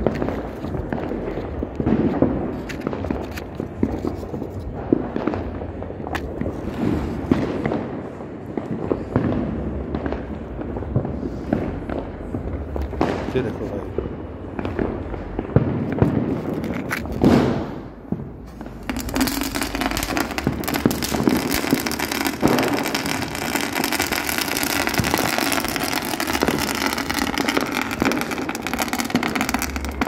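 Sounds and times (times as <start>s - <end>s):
firecrackers crackling in a tube: 0.0s - 30.0s.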